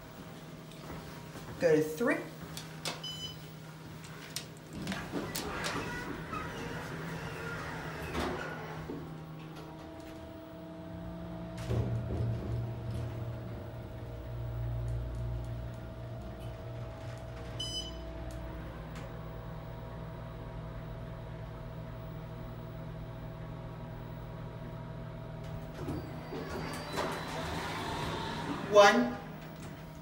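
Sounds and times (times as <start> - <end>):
elevator hum: 0.0 - 30.0.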